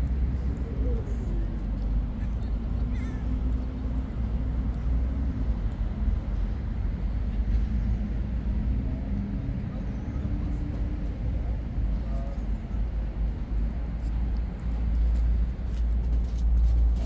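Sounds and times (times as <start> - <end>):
city traffic rumble: 0.0 - 17.0
faint engine hum: 0.0 - 17.0.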